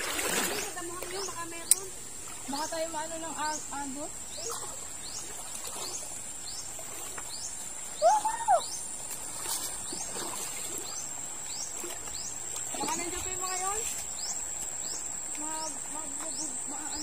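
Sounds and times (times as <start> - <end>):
bird chirping: 2.5 - 17.0.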